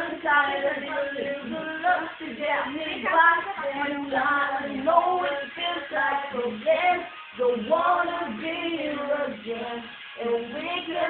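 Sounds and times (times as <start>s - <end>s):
voices singing: 0.0s - 11.0s.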